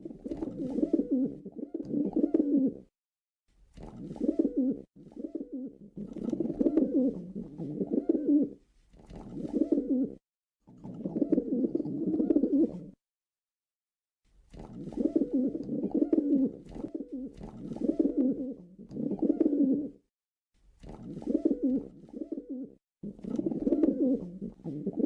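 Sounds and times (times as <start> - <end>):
pigeon cooing: 0.0 - 2.9, 3.9 - 10.2, 10.8 - 13.0, 14.7 - 20.0, 20.9 - 25.0.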